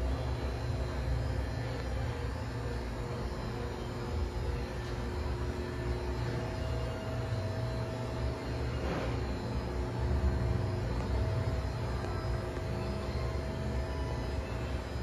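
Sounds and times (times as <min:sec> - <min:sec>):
faint steady tones: 0:00.0 - 0:15.0
low machine hum: 0:00.0 - 0:15.0.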